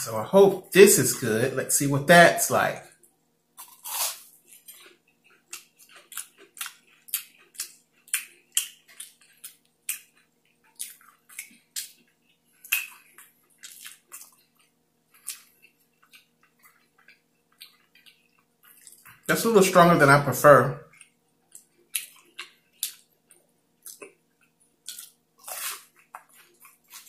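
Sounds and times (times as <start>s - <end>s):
crunchy chewing: 3.6s - 19.3s, 20.9s - 27.0s.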